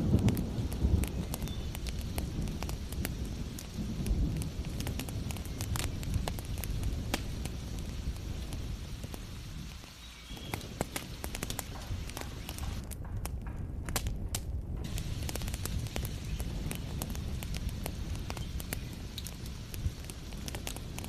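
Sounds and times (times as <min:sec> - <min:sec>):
heavy rain: 0:00.0 - 0:12.9, 0:14.8 - 0:21.0
wood fire crackling: 0:00.0 - 0:21.0.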